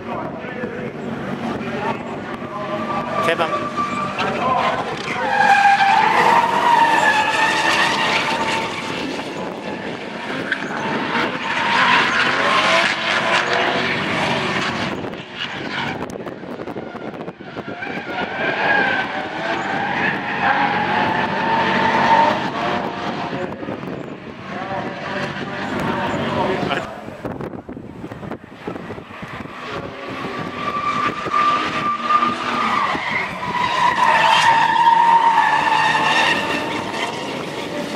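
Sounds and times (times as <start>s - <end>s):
car engines revving: 0.0s - 37.9s.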